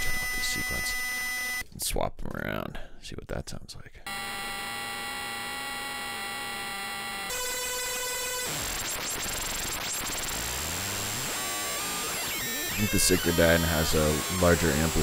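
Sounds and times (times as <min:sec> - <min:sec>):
harsh digital synth buzz: 0:00.0 - 0:01.6, 0:04.1 - 0:15.0.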